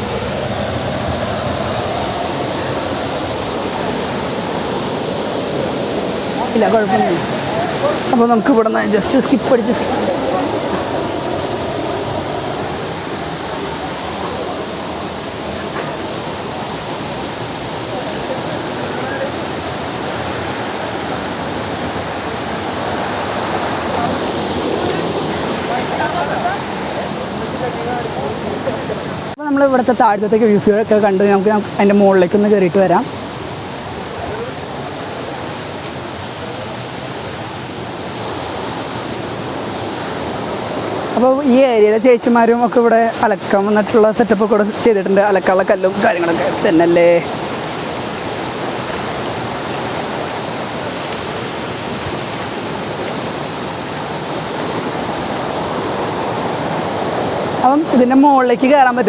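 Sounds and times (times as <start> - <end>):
waterfall pouring over rocks: 0.0 - 59.0.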